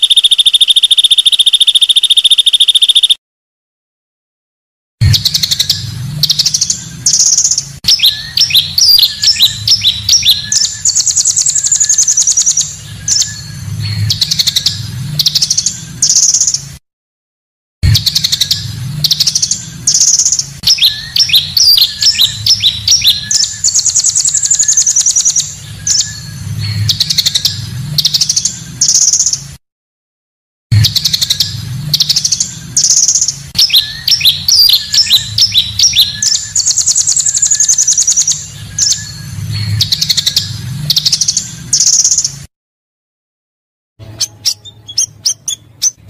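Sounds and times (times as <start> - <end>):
recorded bird song: 0.0 - 3.2, 5.0 - 16.8, 17.8 - 29.6, 30.7 - 42.5, 44.0 - 46.0.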